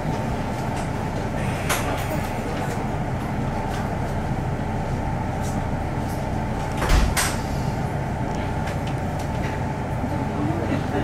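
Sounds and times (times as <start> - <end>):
electric train running noise: 0.0 - 11.0.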